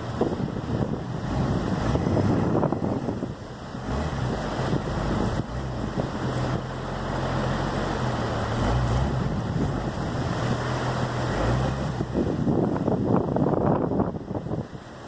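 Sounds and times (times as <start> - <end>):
vehicle engine humming: 0.0 - 15.0
wind buffeting microphone: 0.0 - 15.0.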